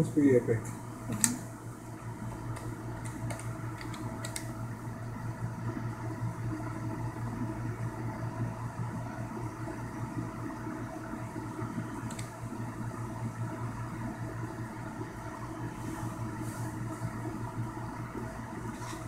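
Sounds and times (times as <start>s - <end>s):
cooling fans humming: 0.0s - 19.0s.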